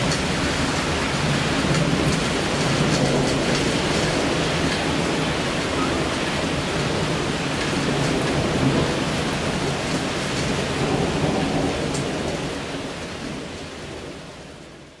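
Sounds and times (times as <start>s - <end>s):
low rumble of thunder: 0.0s - 14.8s
heavy rain falling: 0.0s - 15.0s.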